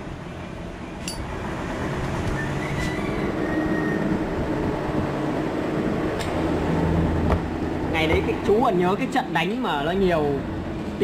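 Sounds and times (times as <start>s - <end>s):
heavy vehicle rumble: 0.0s - 11.0s.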